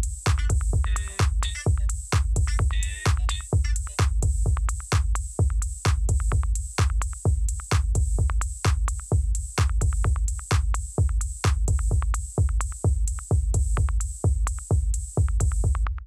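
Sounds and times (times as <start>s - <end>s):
drum-machine beat: 0.0s - 16.0s.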